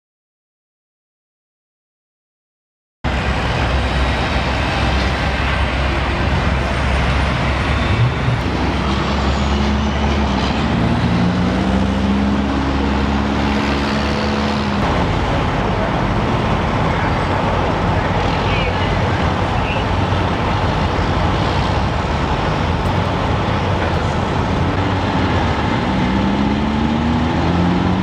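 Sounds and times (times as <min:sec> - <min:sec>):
roadway traffic noise: 0:03.0 - 0:28.0
heavy vehicle engine hum: 0:03.1 - 0:28.0.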